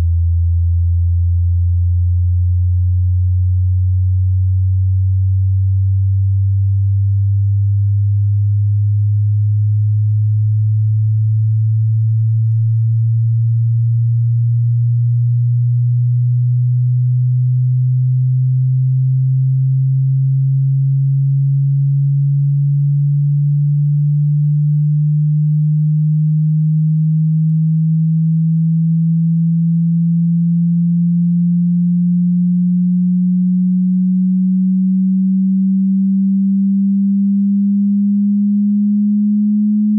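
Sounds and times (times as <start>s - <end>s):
rising sine tone: 0.0s - 39.9s.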